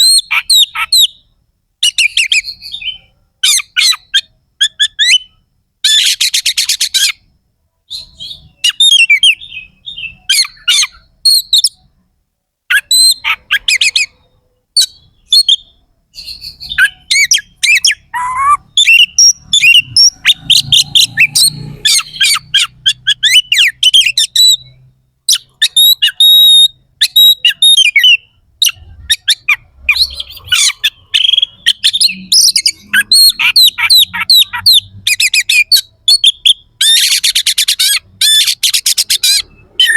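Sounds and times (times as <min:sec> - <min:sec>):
bird singing chattering phrases: 0:00.0 - 0:07.3, 0:07.9 - 0:11.9, 0:12.7 - 0:39.9.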